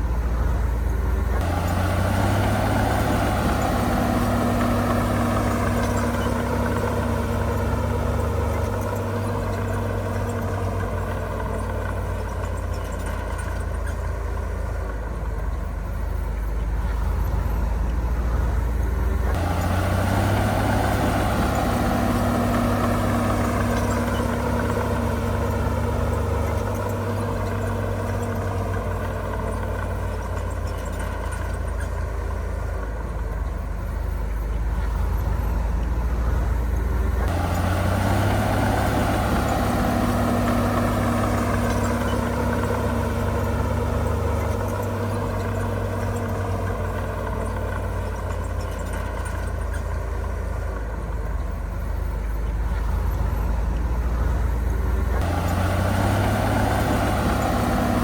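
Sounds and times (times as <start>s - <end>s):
heavy diesel machinery engine running: 0.0s - 58.0s.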